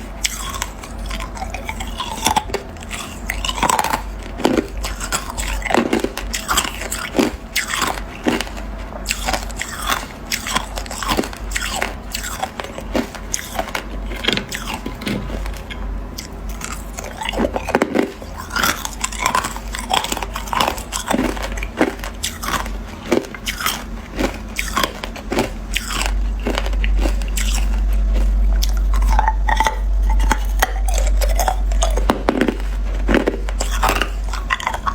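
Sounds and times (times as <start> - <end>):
low hum: 0.0 - 34.9
person chewing ice crunching: 0.0 - 34.9.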